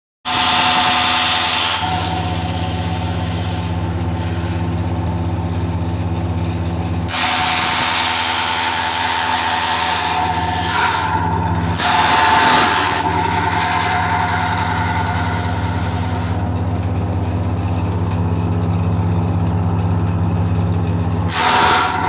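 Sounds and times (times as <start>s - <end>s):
machine motor humming: 0.3s - 22.0s.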